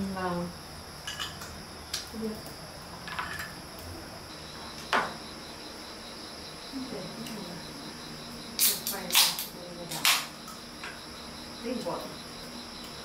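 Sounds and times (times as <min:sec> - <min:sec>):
crickets and insects chirping: 0:00.0 - 0:13.0
insect chirping in rapid pulse: 0:00.0 - 0:13.0.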